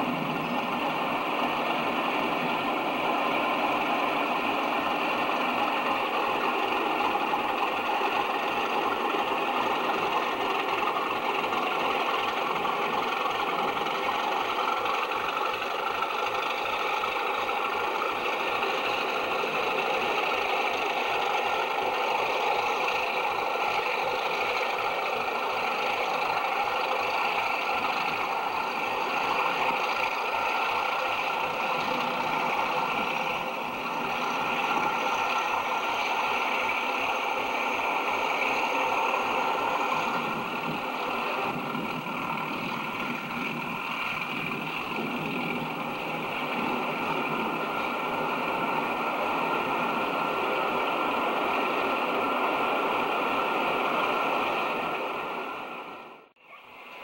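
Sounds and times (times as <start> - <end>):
diesel locomotive engines idling: 0.0 - 57.0.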